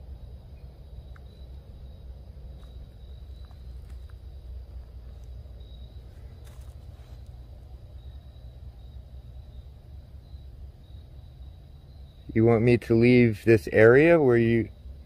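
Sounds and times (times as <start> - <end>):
high-pitched insect-like tone: 0.0 - 15.0.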